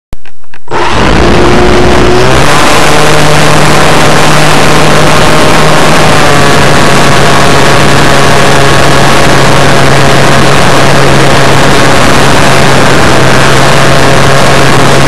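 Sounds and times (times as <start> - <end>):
electric motor and propeller hum: 0.6 - 15.0
loud wind rush: 0.7 - 15.0.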